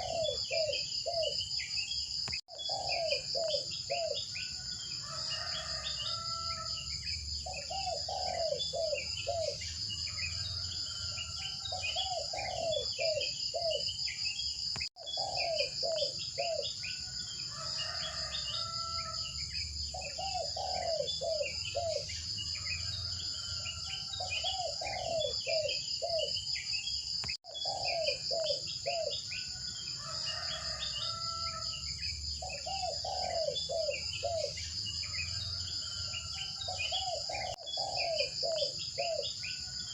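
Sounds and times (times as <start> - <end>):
bird calls and chirps: 0.0 - 39.9
insects chirring: 0.0 - 39.9.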